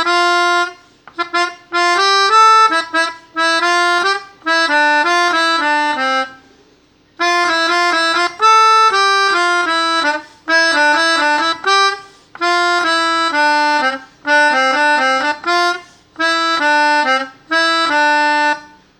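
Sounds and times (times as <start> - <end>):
melodica playing short phrases: 0.0 - 6.6, 7.2 - 18.9.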